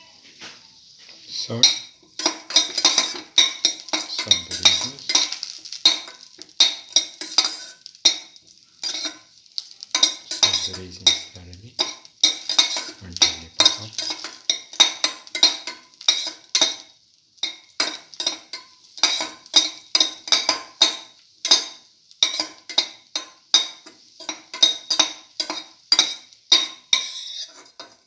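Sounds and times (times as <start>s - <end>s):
raisins frying in oil: 0.0s - 28.0s
spoon scraping steel pan: 1.0s - 9.3s, 9.9s - 16.8s, 17.4s - 28.0s.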